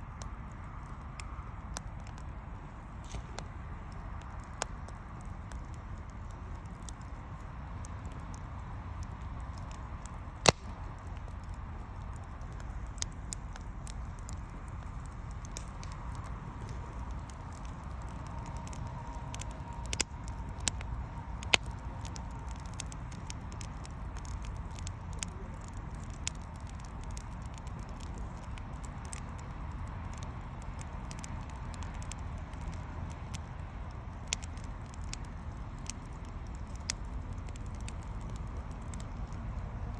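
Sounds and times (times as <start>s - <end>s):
bonfire crackling and popping: 0.0s - 39.9s
low fire rumble: 0.0s - 39.9s.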